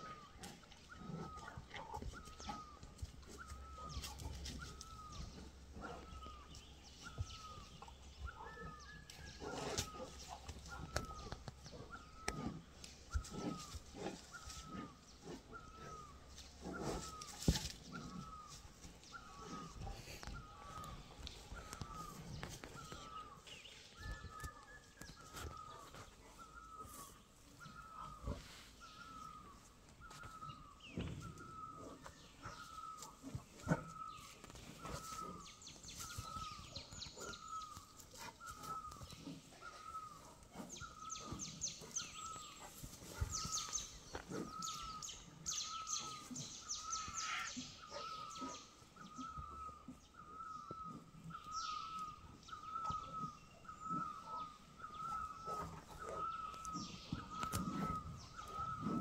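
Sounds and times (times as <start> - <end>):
bird chirping: 0.2 - 59.0.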